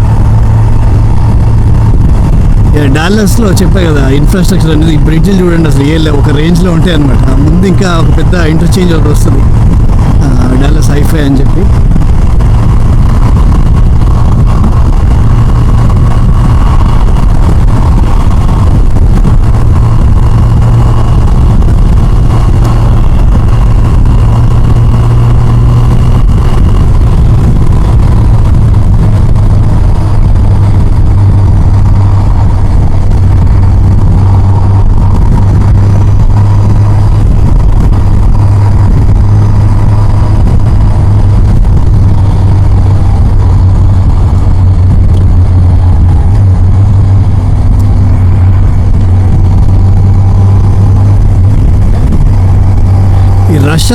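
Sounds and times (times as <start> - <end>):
motorcycle engine running: 0.0 - 53.9
wind rumble on microphone: 0.0 - 53.9.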